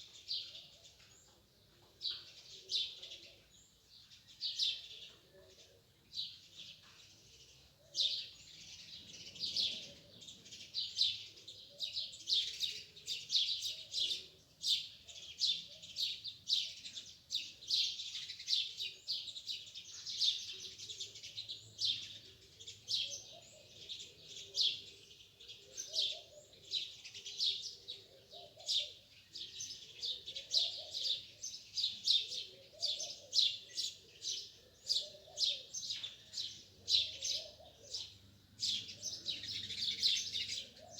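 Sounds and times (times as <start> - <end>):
small birds chirping in chorus: 0.0 - 40.9.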